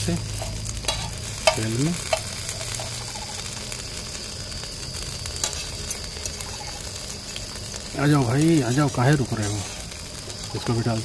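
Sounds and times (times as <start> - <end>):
potato patties sizzling in oil: 0.0 - 11.0.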